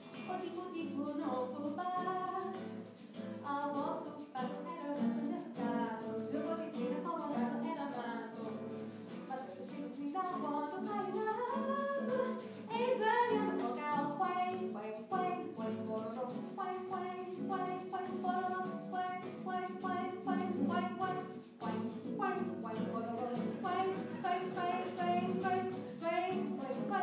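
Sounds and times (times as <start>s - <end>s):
acoustic guitar: 0.0s - 27.0s
woman singing: 0.0s - 27.0s.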